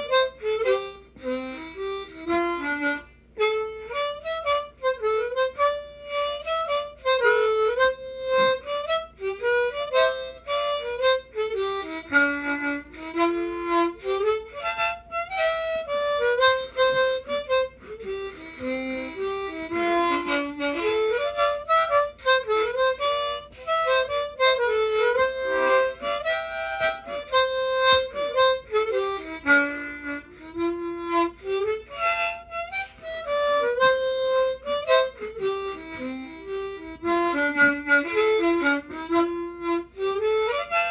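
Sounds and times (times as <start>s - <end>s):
harmonica playing a dance tune: 0.0s - 40.9s.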